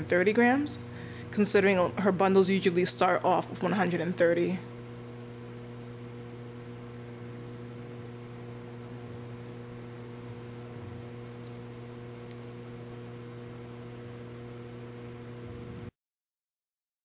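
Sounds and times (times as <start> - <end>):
electrical mains hum: 0.0 - 15.9.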